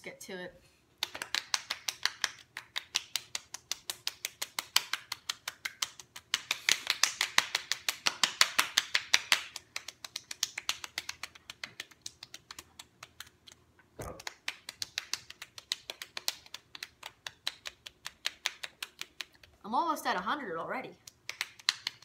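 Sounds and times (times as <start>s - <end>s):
palms slapping cheeks: 1.0s - 19.6s, 21.0s - 22.0s.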